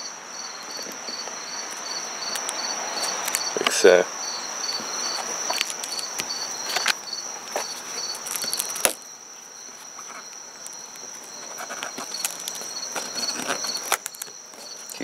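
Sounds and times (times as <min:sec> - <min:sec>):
constant high hum: 0:00.0 - 0:15.0
insects chirping: 0:00.0 - 0:15.0.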